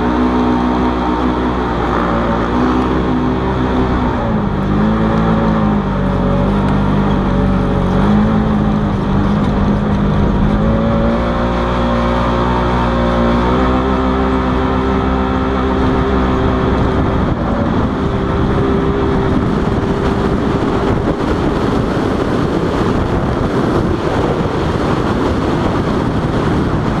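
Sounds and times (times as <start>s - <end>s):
vehicle engine running: 0.0s - 27.0s
wind rushing on microphone: 0.0s - 27.0s.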